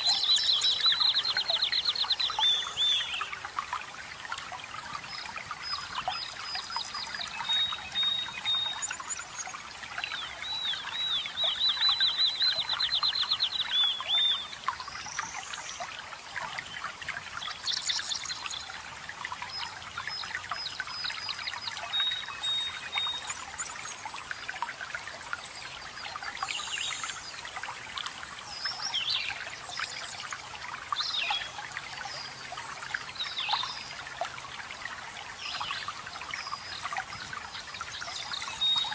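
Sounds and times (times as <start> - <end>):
small birds singing: 0.0 - 3.5, 4.9 - 15.9, 17.4 - 27.6, 28.4 - 34.3, 35.2 - 38.9
water trickling and splashing: 0.0 - 38.9.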